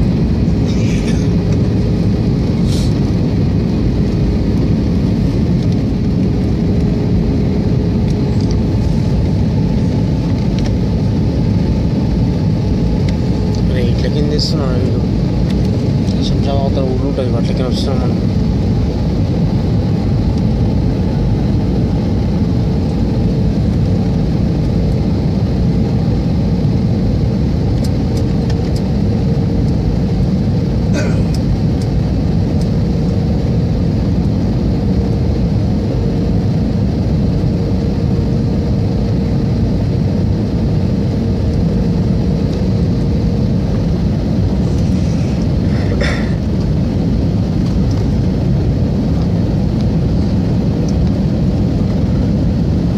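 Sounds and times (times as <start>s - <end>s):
jet engine and airflow rush: 0.0s - 52.9s
steady hum: 0.0s - 52.9s.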